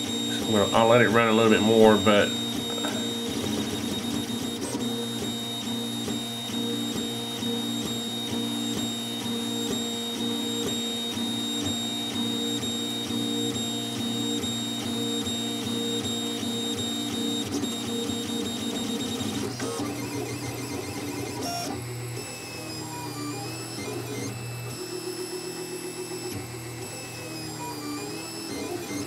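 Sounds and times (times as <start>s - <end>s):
printer stepper motors whining: 0.0s - 29.0s.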